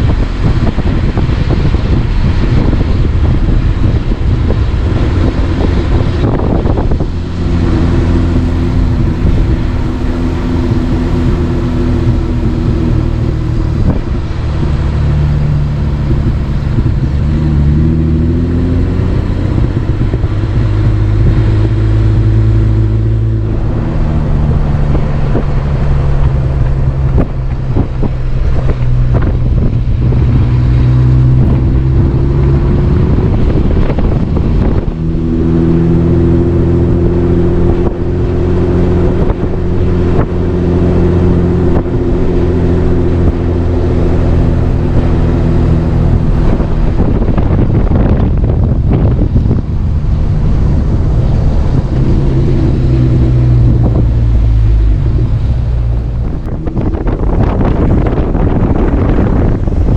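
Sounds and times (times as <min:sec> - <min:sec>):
car engine hum: 0:00.0 - 0:59.9
wind and road noise: 0:00.0 - 0:59.9.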